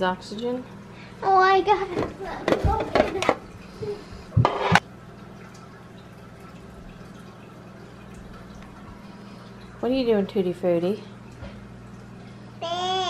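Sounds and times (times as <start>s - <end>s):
faint water sounds: 0.0s - 13.0s.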